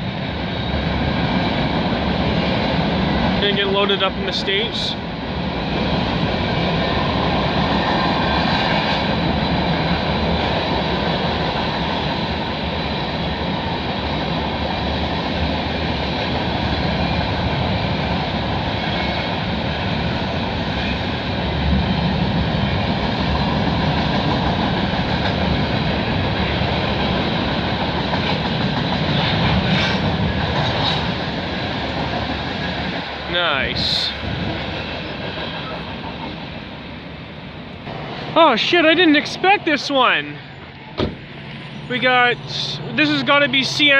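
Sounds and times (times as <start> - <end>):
freight train wheels rumbling on rails: 0.0 - 43.9
train clicks: 0.2 - 43.9.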